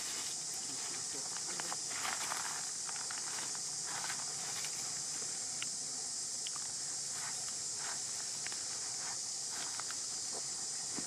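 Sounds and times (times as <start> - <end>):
crackles of dry leaf litter: 0.0 - 5.7, 6.5 - 10.8
insects chorus: 0.0 - 11.0.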